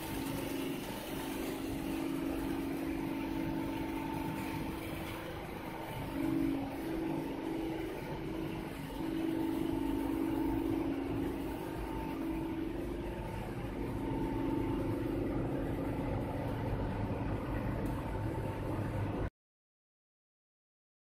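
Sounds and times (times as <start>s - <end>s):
machinery humming: 0.0s - 19.3s.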